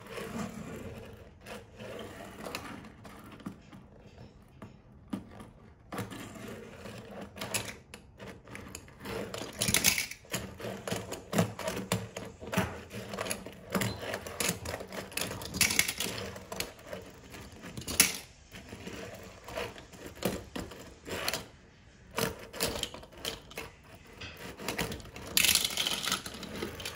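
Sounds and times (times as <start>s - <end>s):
metal toy cars clattering: 2.4s - 21.5s, 22.1s - 26.9s.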